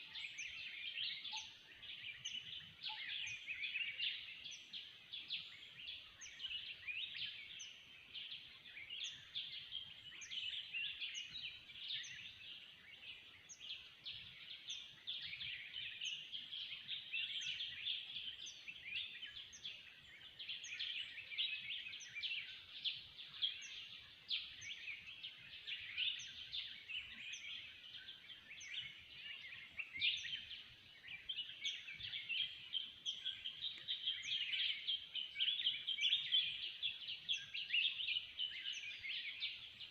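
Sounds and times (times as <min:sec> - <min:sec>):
chorus of forest birds: 0:00.0 - 0:39.9.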